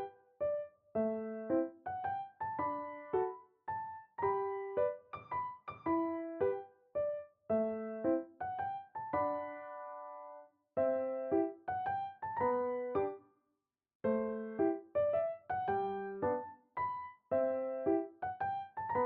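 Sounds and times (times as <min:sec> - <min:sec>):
gentle piano melody: 0:00.0 - 0:13.2, 0:14.0 - 0:19.0.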